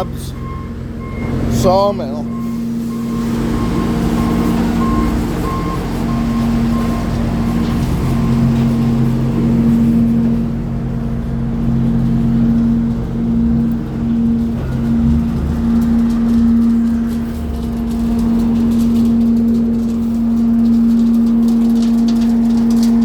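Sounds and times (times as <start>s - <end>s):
reversing alarm beeping: 0.0s - 21.9s
sawmill machinery humming: 0.0s - 23.0s.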